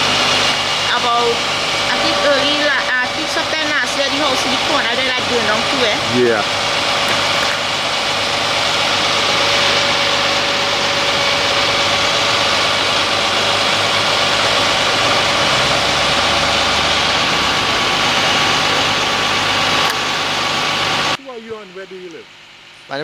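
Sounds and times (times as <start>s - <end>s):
engine idling with whine: 0.0s - 23.0s.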